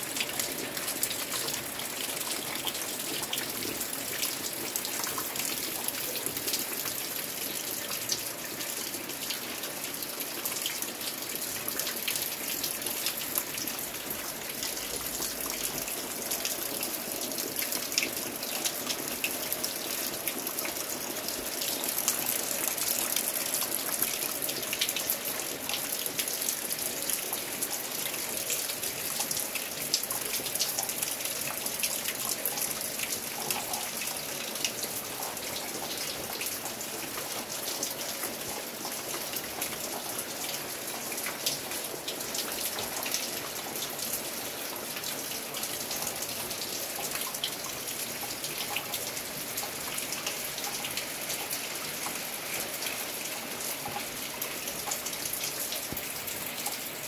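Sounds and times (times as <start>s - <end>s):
steady rain: 0.0s - 57.0s
water dripping off a roof: 0.0s - 57.0s.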